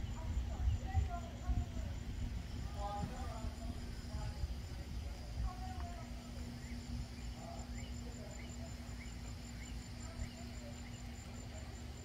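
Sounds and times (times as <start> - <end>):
faint hum: 0.0 - 12.0
insect chirring: 0.0 - 12.0.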